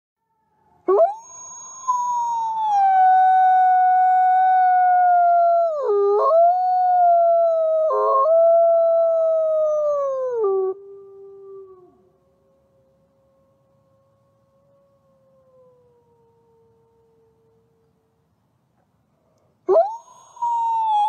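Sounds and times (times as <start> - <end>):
wolf howling: 0.2 - 17.9, 19.7 - 21.0.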